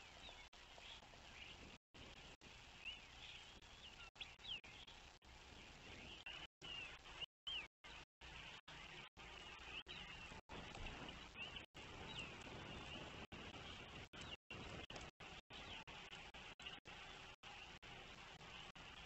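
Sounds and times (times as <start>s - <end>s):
songbird chirps and calls: 0.0s - 1.8s, 2.6s - 19.0s.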